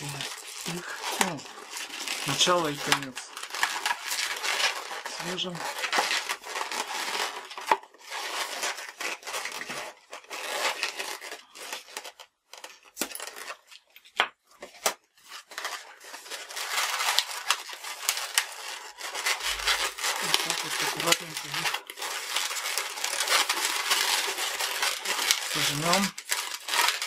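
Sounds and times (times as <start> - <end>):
balloon rubbing and squeaking: 0.0 - 12.1, 16.3 - 27.0.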